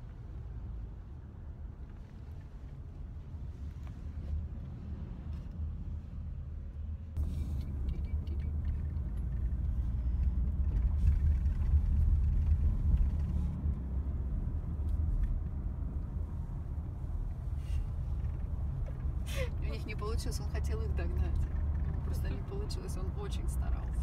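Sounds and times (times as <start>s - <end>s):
car driving heard from inside: 0.0s - 24.0s.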